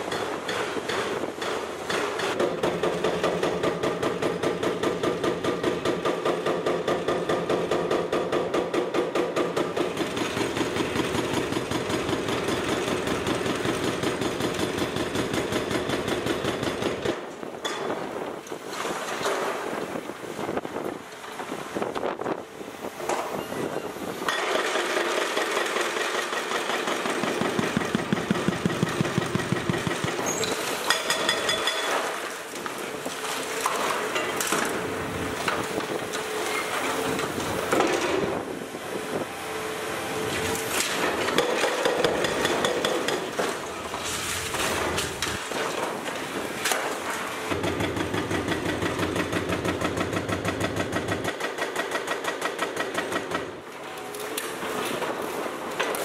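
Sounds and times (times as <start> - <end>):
hydraulic breaker pounding concrete: 0.0 - 18.3, 24.2 - 38.6, 40.4 - 53.6.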